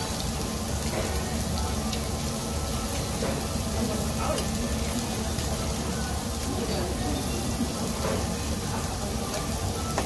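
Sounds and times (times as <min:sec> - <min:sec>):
meat sizzling on grill plate: 0:00.0 - 0:10.0.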